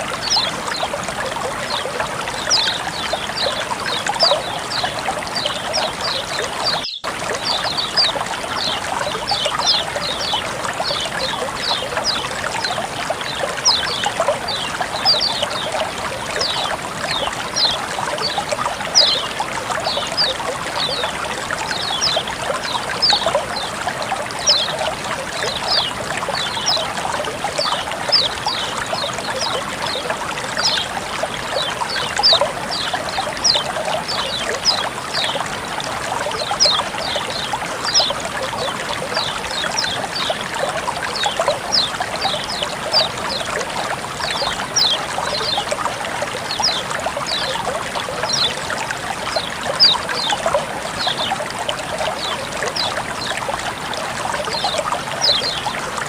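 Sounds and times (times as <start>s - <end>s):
water flowing and trickling: 0.0s - 56.0s.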